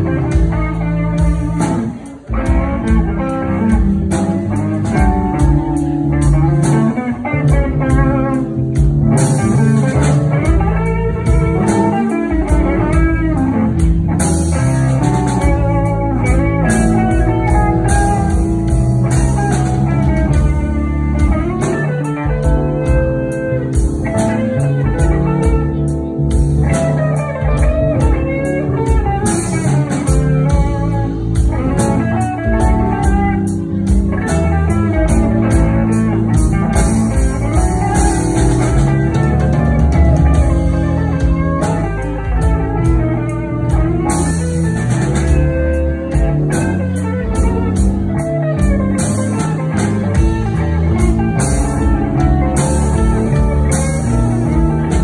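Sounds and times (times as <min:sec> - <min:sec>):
bass guitar: 0:00.0 - 0:55.0
drum kit: 0:00.0 - 0:55.0
electric guitars: 0:00.0 - 0:55.0
keyboard: 0:00.0 - 0:55.0.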